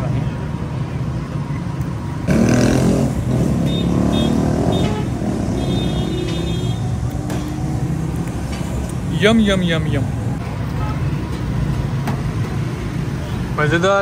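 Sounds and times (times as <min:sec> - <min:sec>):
road traffic: 0:00.0 - 0:14.0
vehicle engine noise: 0:00.0 - 0:14.0.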